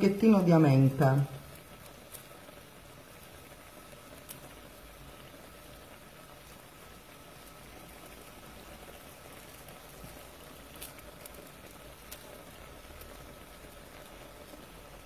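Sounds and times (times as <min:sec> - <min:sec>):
fish simmering in frying pan: 0:00.0 - 0:15.0.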